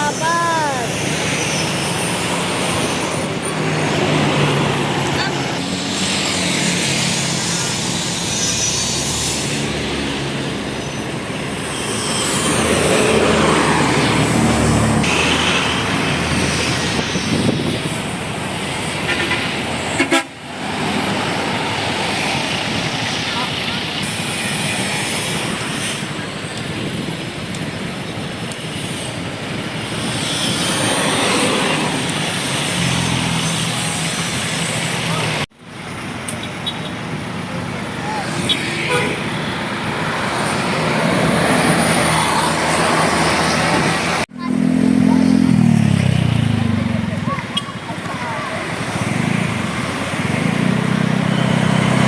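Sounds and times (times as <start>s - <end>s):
passing vehicles: 0.0s - 52.0s.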